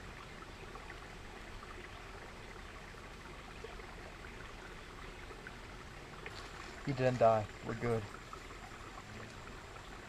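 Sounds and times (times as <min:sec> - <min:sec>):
creek flowing water: 0:00.0 - 0:10.0.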